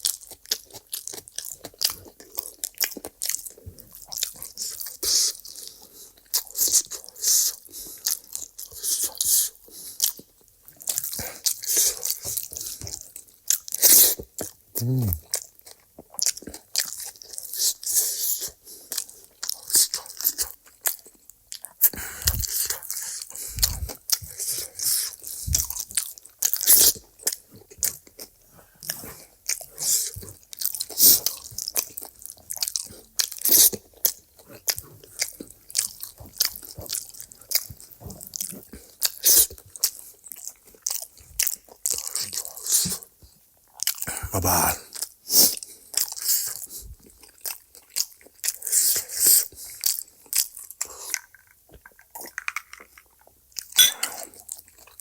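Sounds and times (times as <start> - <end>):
crisp crunching and chewing: 0.0 - 55.0.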